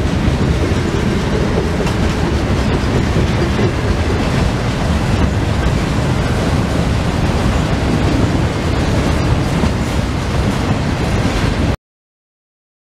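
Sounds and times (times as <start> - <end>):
train wheels rumbling on rail: 0.0 - 11.8.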